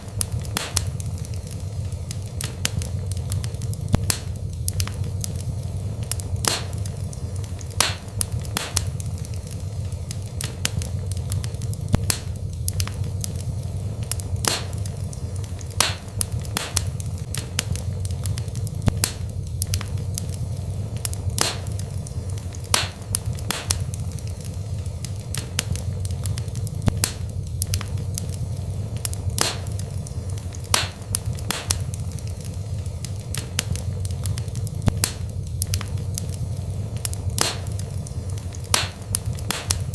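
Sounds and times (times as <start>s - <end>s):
fire crackling and popping: 0.0s - 39.9s
low rumble of fire: 0.0s - 39.9s.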